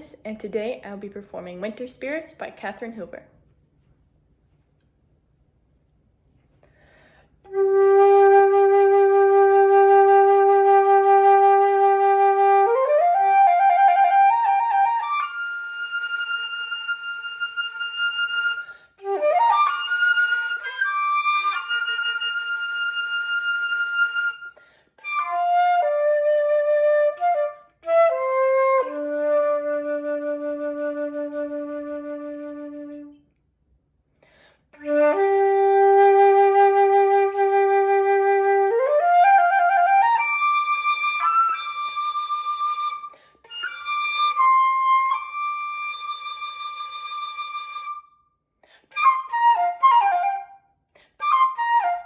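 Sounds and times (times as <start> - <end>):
solo flute playing: 7.4 - 33.3, 34.8 - 52.0.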